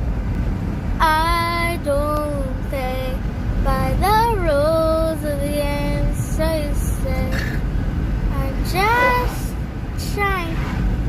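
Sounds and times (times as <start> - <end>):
low rumble: 0.0 - 11.0
girl singing unaccompanied: 1.0 - 7.6, 8.3 - 10.6.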